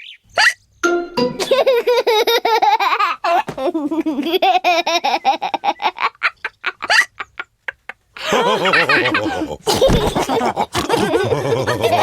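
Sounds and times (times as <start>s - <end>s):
cartoon characters laughing: 1.3s - 12.0s.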